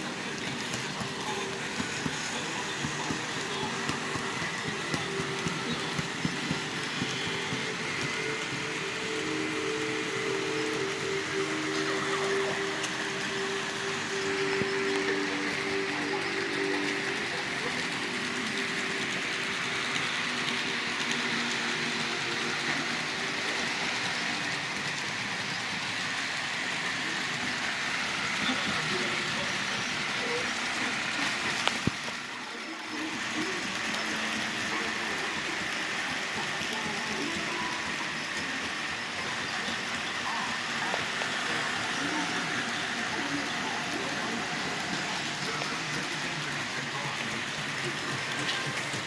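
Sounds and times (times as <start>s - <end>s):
model train motor whine: 0.0s - 49.0s
wheels hissing on rails: 0.0s - 49.0s.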